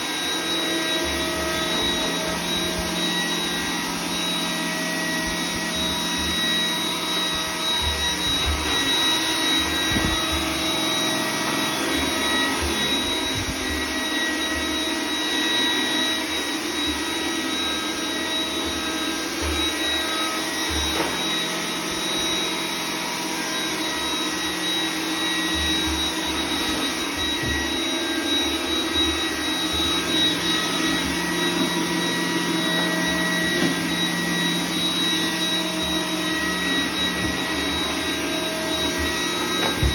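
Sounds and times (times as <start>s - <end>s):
robot vacuum whirring: 0.0s - 39.9s.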